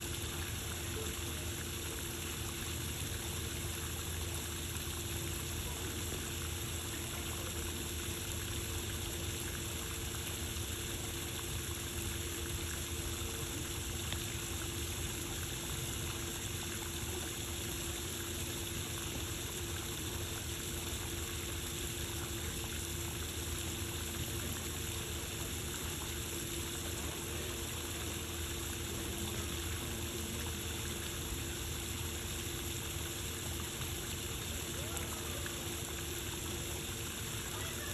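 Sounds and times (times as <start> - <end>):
constant low hum: 0.0 - 37.9
running water rushing: 0.0 - 37.9.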